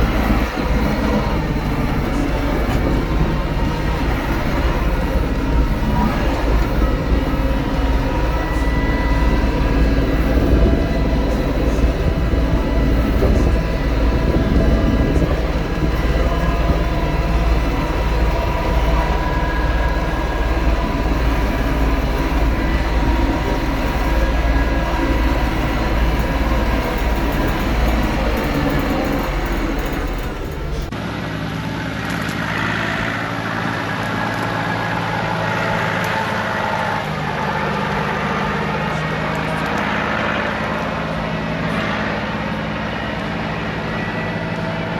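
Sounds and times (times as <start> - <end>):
tractor engine rumbling: 0.0 - 44.9.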